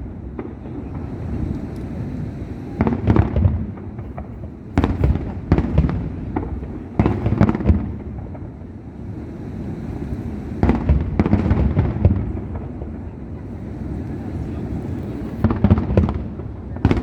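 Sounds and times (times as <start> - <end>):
fireworks sharp bangs: 0.0 - 17.0
rolling rumble of echoing bursts: 0.0 - 17.0.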